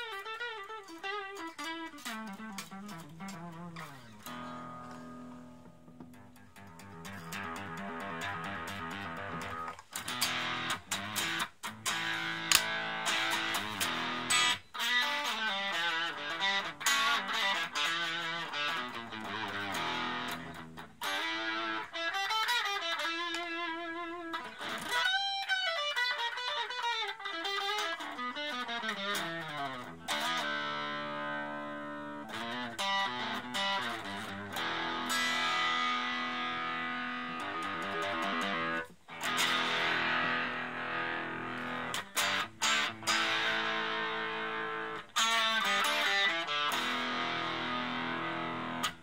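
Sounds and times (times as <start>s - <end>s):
distorted electric guitar: 0.0s - 49.0s.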